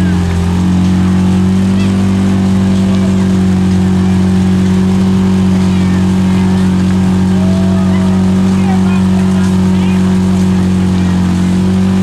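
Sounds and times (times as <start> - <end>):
engine droning at high revs: 0.0 - 12.0
tyres churning through mud: 0.0 - 12.0.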